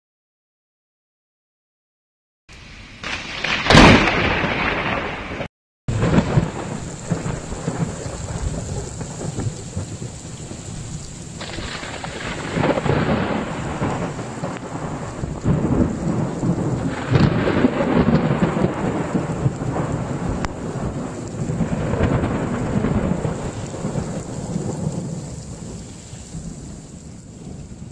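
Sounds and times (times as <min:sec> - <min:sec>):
thunder rumbling: 0:02.9 - 0:27.9
steady rain: 0:03.0 - 0:27.9.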